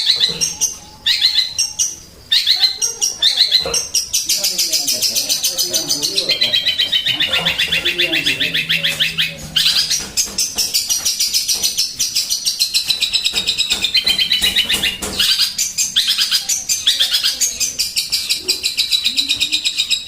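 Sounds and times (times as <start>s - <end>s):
sparrow chattering chirps: 0.0s - 20.0s.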